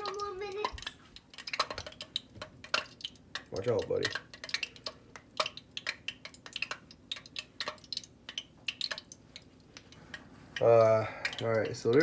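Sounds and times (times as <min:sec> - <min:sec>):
light clicks and taps: 0:00.0 - 0:12.0.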